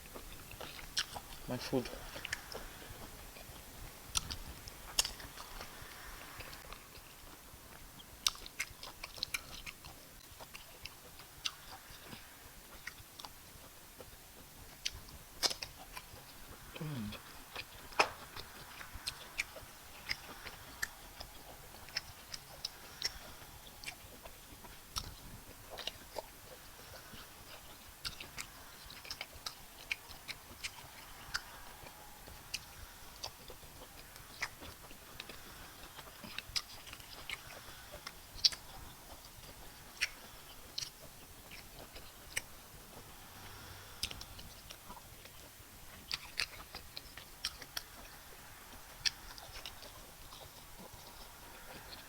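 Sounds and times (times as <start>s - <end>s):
lip smacks and mouth clicks: 0.0s - 52.0s
wet chewing: 0.0s - 52.0s.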